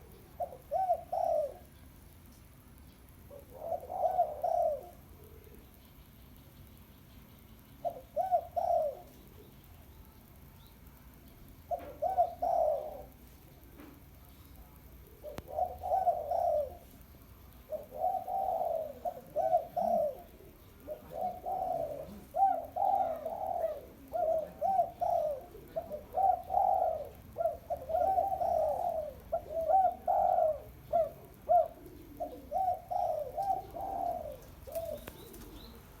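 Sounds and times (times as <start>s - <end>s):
dove cooing: 0.0s - 1.9s, 3.2s - 5.8s, 7.7s - 9.7s, 11.6s - 13.9s, 14.5s - 36.0s.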